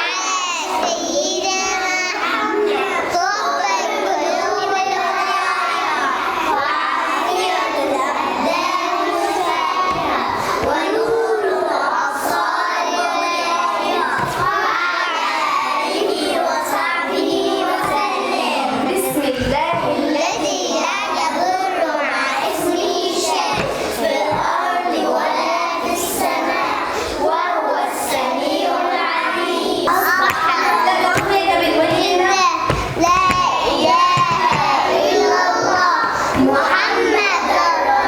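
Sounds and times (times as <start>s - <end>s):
young children singing: 0.0s - 38.0s.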